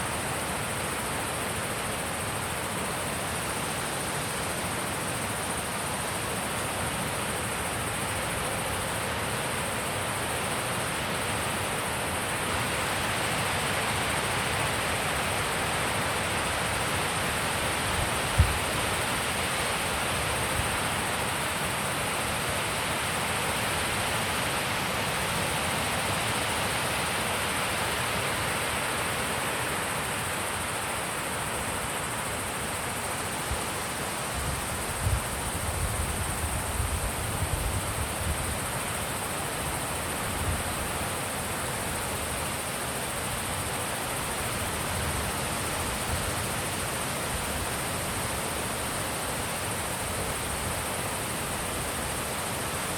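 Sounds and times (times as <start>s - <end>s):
wind blowing through trees: 0.0s - 52.9s.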